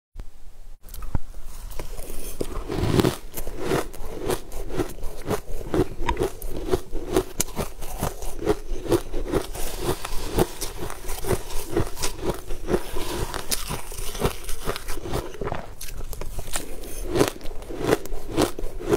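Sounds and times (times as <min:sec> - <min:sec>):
metal spoon scraping ice: 0:01.5 - 0:18.9
crunching and chewing ice: 0:01.7 - 0:18.9.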